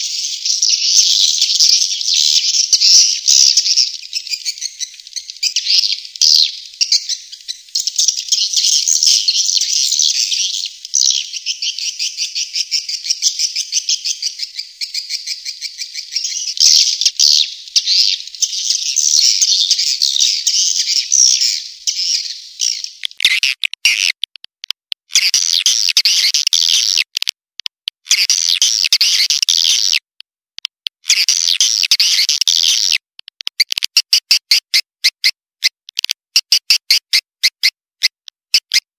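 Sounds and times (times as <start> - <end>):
high-pitched bird twittering: 0.0 - 24.4, 25.1 - 27.1, 28.0 - 30.0, 31.1 - 35.3.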